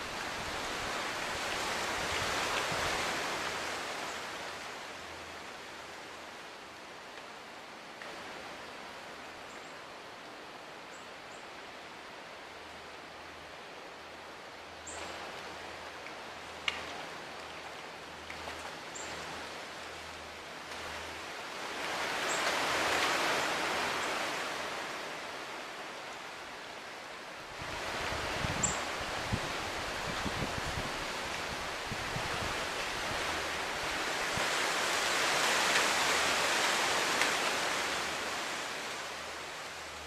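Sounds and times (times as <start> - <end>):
rustling vegetation: 0.0 - 9.5, 12.3 - 40.0
wind hiss: 0.0 - 40.0.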